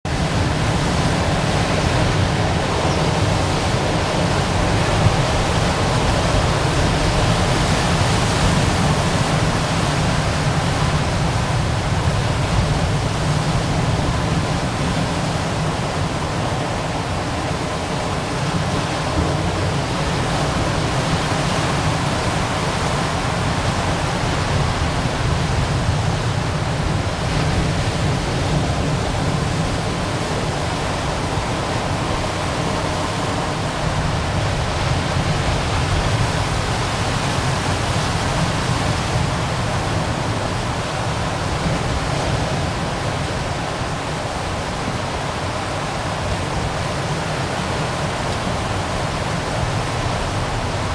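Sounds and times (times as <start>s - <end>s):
ocean surf washing onto rocks: 0.1s - 50.9s.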